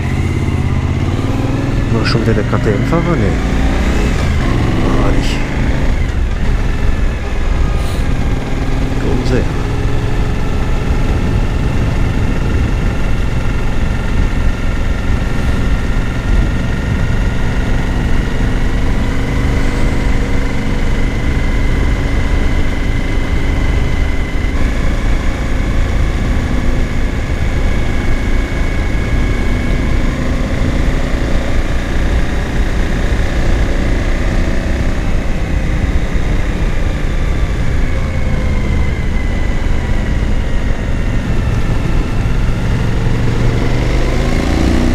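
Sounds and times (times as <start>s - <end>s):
motorcycle engine running: 0.0s - 44.9s
wind rushing over microphone: 3.3s - 44.9s.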